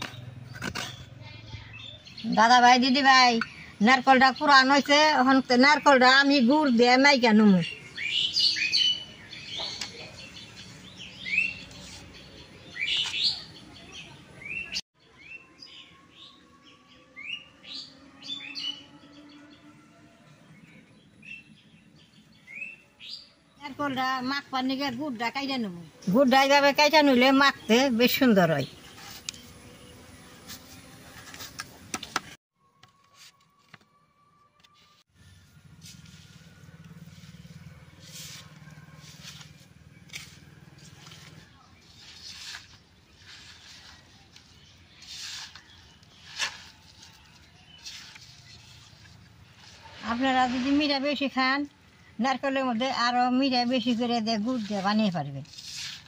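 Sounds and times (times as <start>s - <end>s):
small birds chirping: 0.0s - 32.4s, 35.2s - 56.0s.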